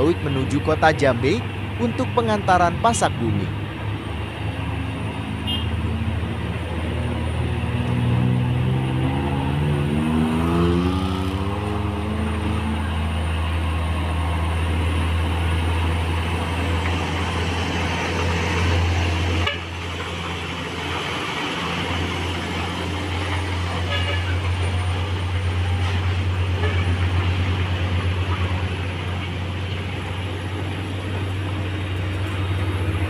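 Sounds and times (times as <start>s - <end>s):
diesel truck engines under load: 0.0s - 33.0s.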